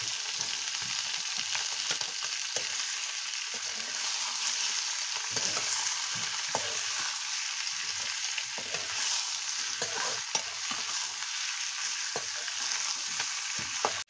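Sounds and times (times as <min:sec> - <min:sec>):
curry sizzling in a pan: 0:00.0 - 0:14.0
spoon scraping and knocking pan: 0:00.3 - 0:02.9, 0:03.5 - 0:11.2, 0:12.0 - 0:14.0.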